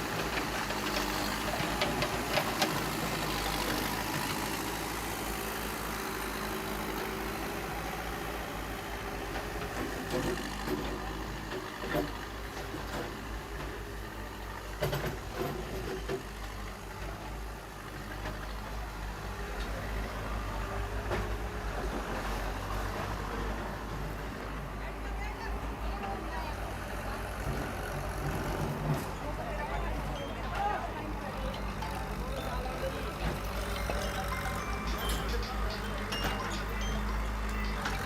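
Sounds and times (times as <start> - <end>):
bulldozer engine running: 0.0 - 38.0.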